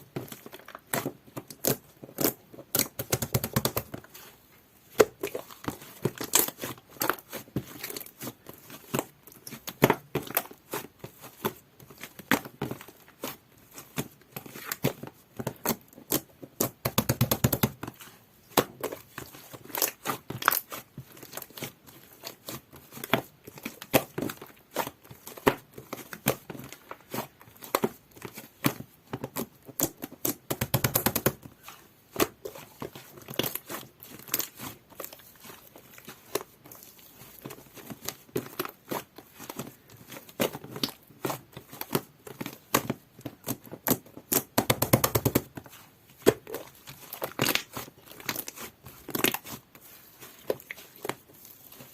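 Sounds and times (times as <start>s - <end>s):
slime squished by hand: 4.9s - 51.9s.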